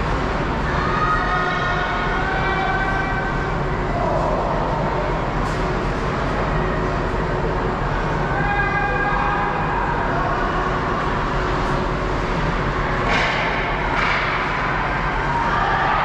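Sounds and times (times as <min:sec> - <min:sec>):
arena noise: 0:00.0 - 0:16.0.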